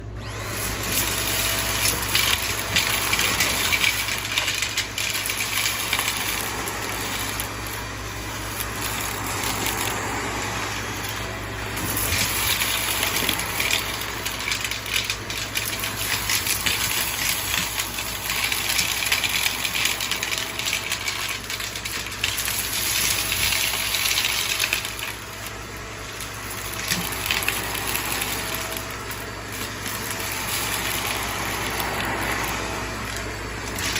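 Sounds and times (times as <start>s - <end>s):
vacuum cleaner motor: 0.0s - 33.9s.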